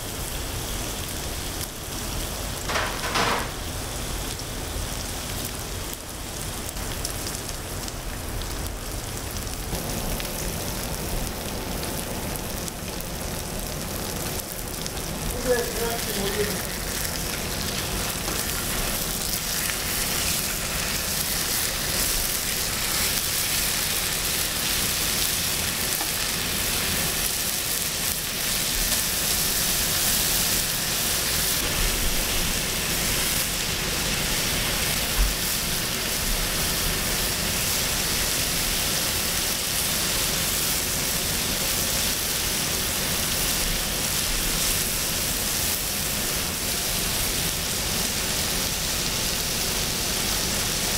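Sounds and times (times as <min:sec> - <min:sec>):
meat sizzling on a griddle: 0:00.0 - 0:50.9.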